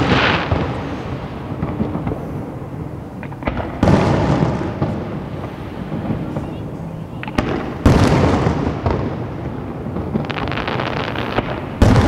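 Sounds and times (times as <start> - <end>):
firework boom rumbling: 0.0 - 12.0
firework cracks: 0.0 - 12.0.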